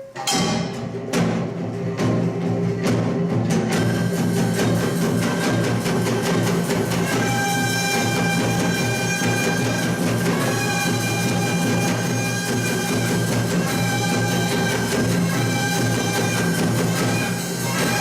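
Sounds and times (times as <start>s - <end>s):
fast steady drumming: 0.0s - 18.0s.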